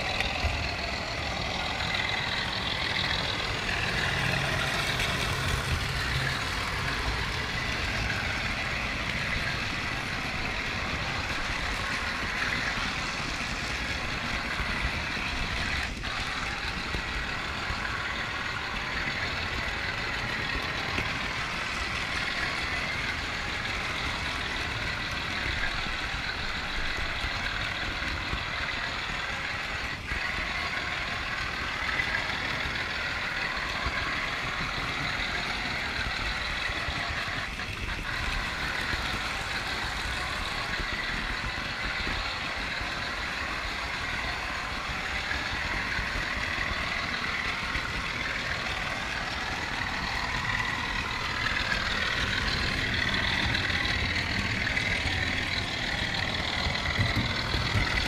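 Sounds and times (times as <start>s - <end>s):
model train wheels rumbling: 0.0s - 58.0s.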